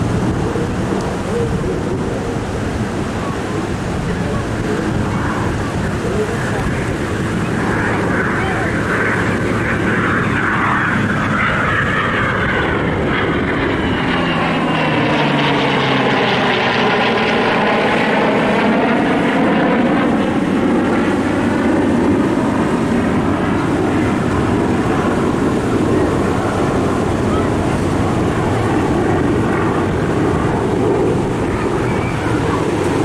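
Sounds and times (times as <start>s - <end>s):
aircraft flying past: 0.0s - 33.0s.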